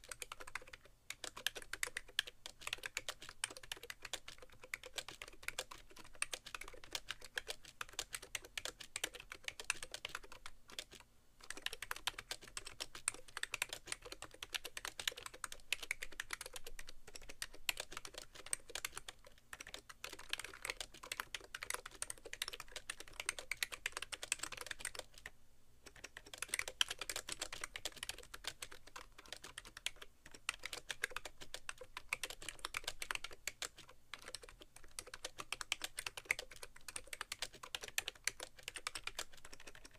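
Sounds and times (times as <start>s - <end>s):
fast typing on rubber-dome keyboard: 0.0s - 25.3s, 25.9s - 39.9s.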